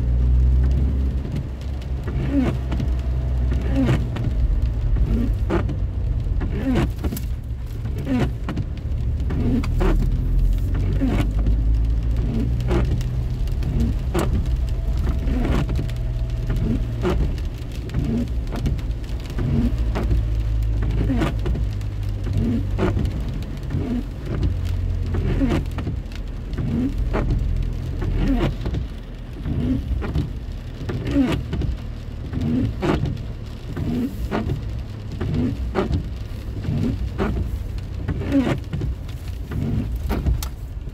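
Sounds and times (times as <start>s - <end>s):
low rumble of car: 0.0s - 40.9s
rain drops tapping on car: 0.0s - 40.9s.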